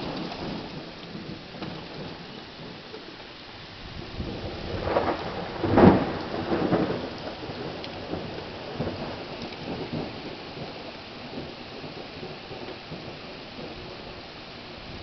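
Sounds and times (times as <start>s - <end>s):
heavy rain falling: 0.0s - 15.0s
thunder clap rumbling: 0.0s - 15.0s.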